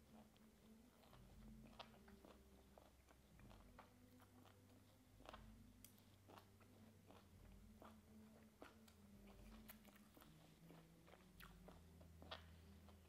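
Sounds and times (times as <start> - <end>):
chewing and sucking food: 0.0 - 13.0.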